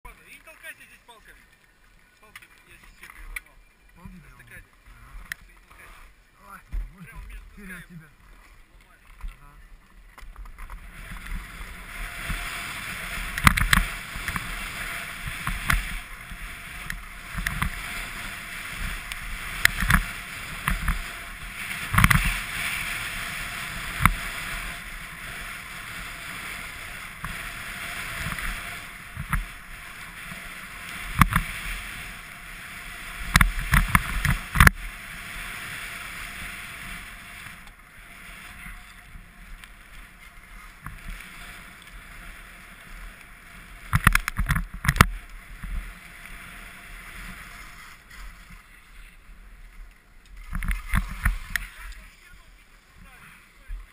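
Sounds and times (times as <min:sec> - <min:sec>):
skis scraping over snow: 0:00.1 - 0:53.9.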